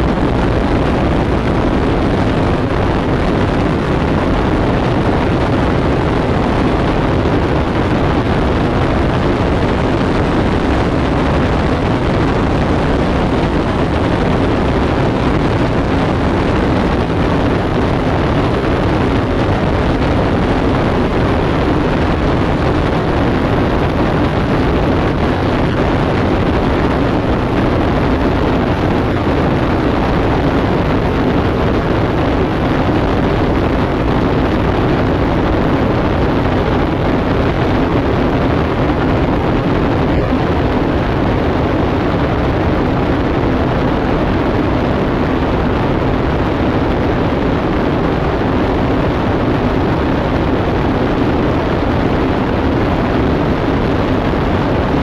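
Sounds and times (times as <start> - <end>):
aircraft engine at full power: 0.0 - 55.0
wind rushing over camera: 0.0 - 55.0.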